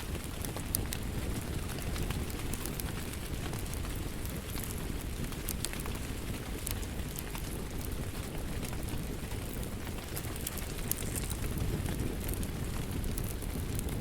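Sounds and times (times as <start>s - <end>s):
rain: 0.0s - 14.0s
wood fire crackling and popping: 0.0s - 14.0s.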